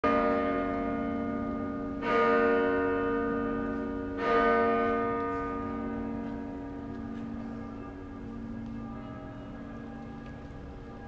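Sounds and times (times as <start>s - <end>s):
church bell tolling: 0.0s - 11.0s.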